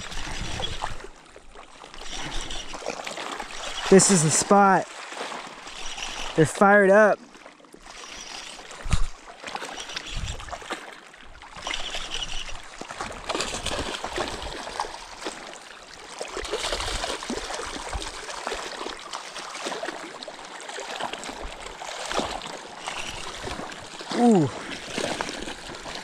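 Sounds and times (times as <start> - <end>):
water lapping among rocks: 0.0 - 26.0.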